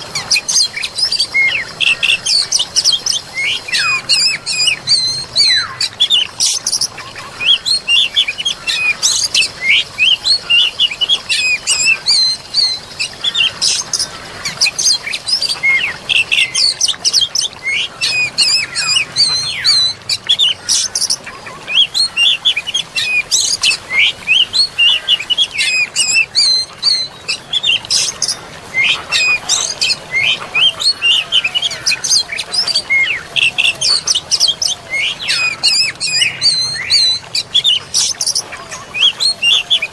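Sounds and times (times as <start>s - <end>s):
flowing water hiss: 0.0s - 39.9s
songbirds singing: 0.0s - 39.9s.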